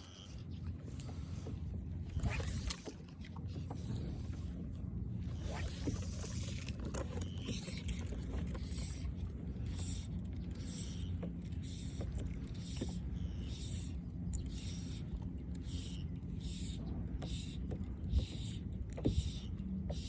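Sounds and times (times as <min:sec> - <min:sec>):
low rumble of wind: 0:00.0 - 0:20.0
water lapping against kayak hull: 0:00.0 - 0:20.0.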